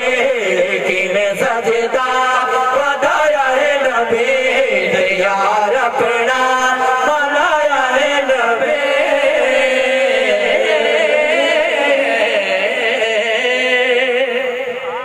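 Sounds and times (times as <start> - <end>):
men singing devotional chant: 0.0 - 14.9.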